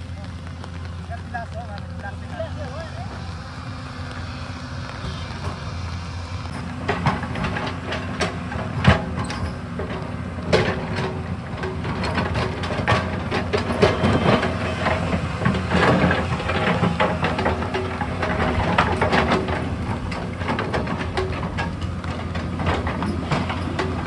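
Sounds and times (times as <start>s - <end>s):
excavator diesel engine: 0.0s - 24.0s
digging knocks and clatter: 4.2s - 24.0s.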